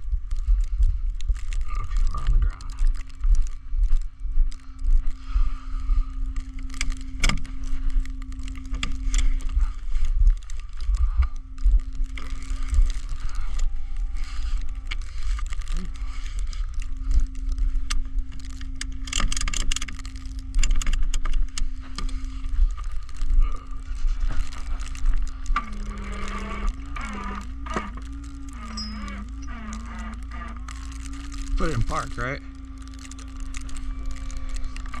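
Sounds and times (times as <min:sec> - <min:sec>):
constant hum: 0:00.0 - 0:35.0
engines idling: 0:04.5 - 0:35.0.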